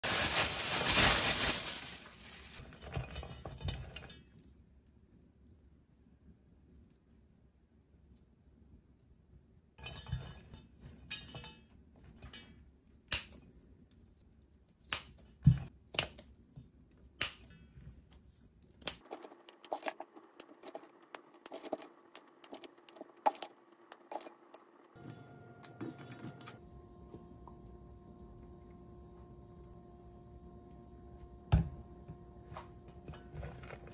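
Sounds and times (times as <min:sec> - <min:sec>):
faint steady hum: 0:00.1 - 0:33.9.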